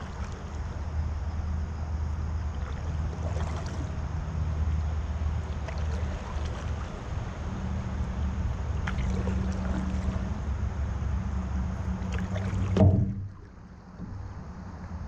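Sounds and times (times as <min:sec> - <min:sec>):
soft water wash: 0:00.0 - 0:15.0
steady low hum: 0:00.0 - 0:15.0.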